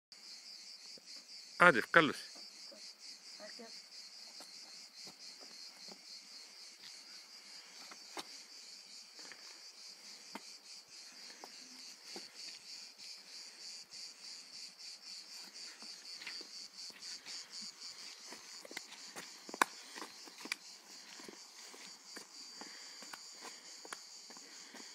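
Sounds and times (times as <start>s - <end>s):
insects chirring: 0.1s - 24.9s.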